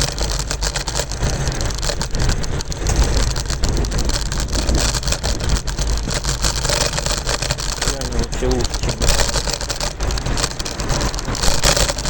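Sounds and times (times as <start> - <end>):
electric scooter rolling on road: 0.0 - 12.0
small knocks and rattles: 0.0 - 12.0
wind buffeting microphone: 0.0 - 12.0.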